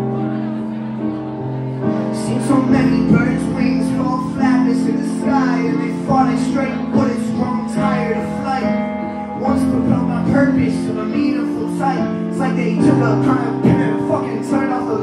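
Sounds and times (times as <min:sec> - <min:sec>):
held keyboard chords: 0:00.0 - 0:15.0.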